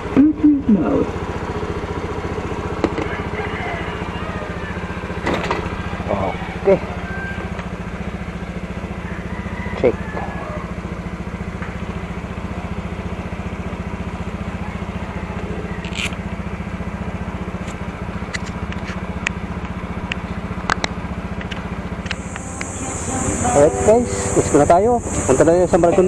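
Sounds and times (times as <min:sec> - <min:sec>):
scooter engine idling: 0:00.0 - 0:26.0.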